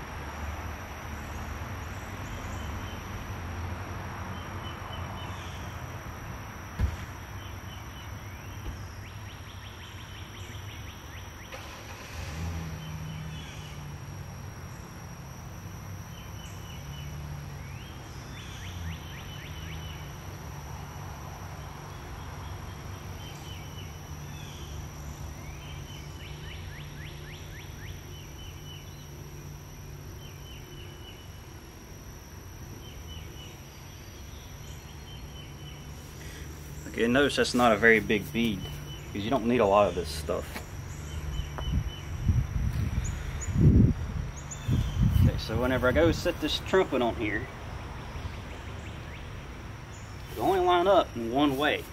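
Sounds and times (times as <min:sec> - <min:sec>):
high insect drone: 0:00.0 - 0:51.9
low steady hum: 0:00.0 - 0:51.9.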